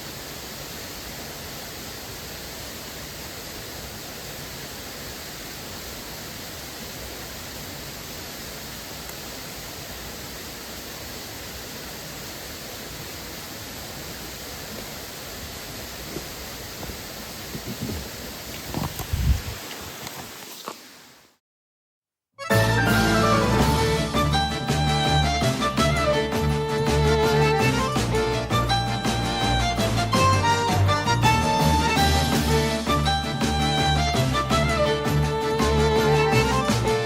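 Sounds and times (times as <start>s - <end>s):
rush of waterfall and stream: 0.0s - 21.4s, 22.8s - 37.0s.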